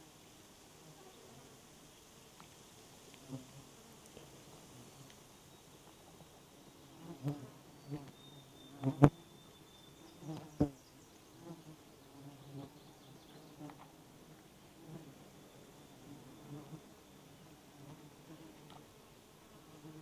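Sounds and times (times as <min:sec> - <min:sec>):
flying insects buzzing: 0:00.0 - 0:20.0.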